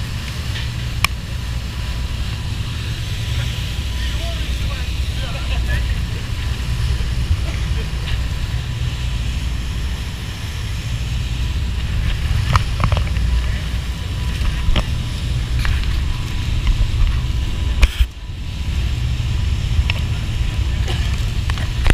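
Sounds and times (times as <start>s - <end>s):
boat engine rumble: 0.0s - 21.9s
churning boat wake: 0.0s - 21.9s
wind buffeting microphone: 0.0s - 21.9s.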